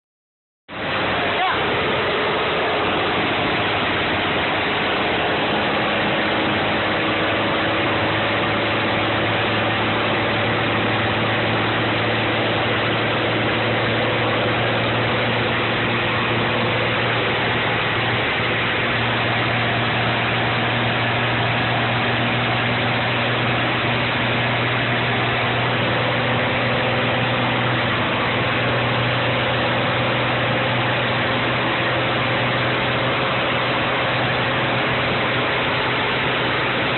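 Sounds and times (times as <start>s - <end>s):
diesel truck engine running: 0.7s - 36.9s.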